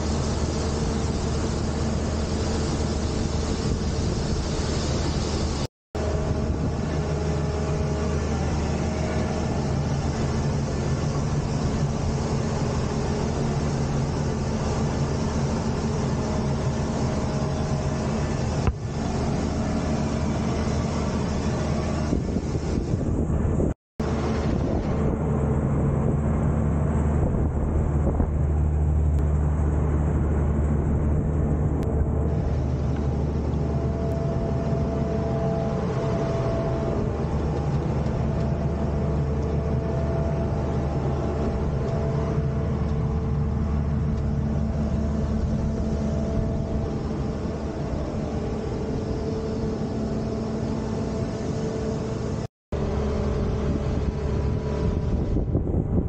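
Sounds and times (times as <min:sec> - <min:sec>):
combine harvester engine drone: 0:00.0 - 0:56.0
machinery whining: 0:00.0 - 0:56.0.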